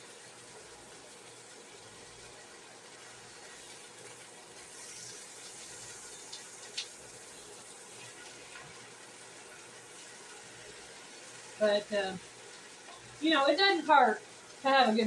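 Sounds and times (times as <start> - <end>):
spinach sizzling in a pan: 0.0 - 15.0.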